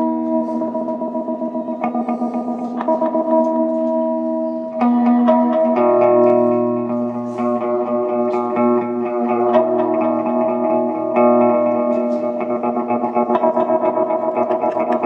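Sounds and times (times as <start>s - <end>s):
distorted guitar chord droning: 0.0s - 15.0s.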